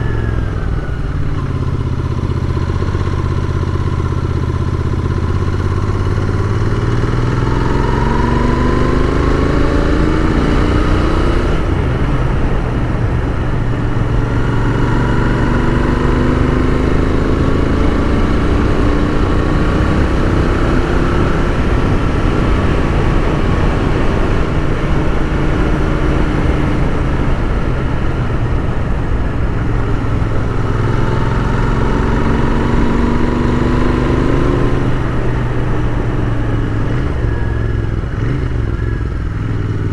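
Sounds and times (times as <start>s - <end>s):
motorcycle engine accelerating: 0.0s - 39.9s
wind noise: 5.3s - 39.9s.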